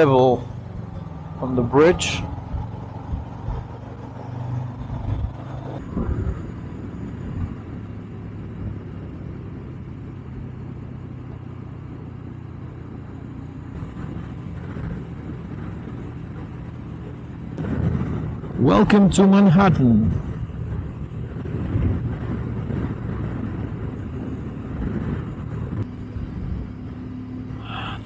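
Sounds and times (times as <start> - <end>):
motorcycle engine cruising: 0.0 - 28.0
road and wind noise: 0.0 - 28.0.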